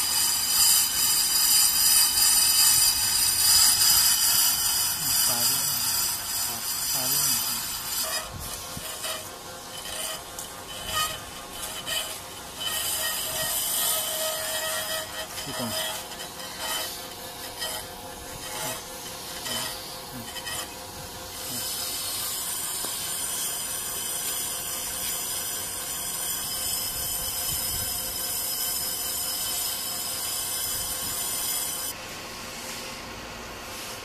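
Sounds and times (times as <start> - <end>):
lathe bit scraping brake drum: 0.0 - 32.0
tool scrapes and clicks: 0.0 - 32.0.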